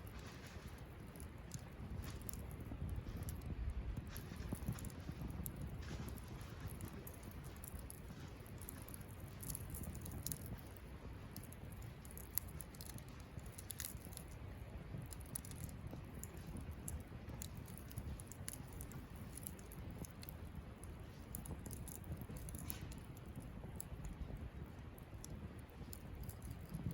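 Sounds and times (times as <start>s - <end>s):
campfire crackling and popping: 0.0s - 26.9s
fire low rumble: 0.0s - 26.9s.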